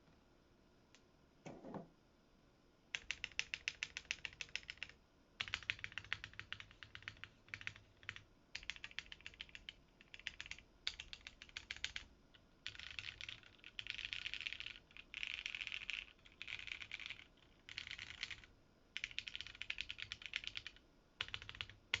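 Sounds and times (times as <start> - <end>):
mechanical keyboard typing: 3.0 - 22.0.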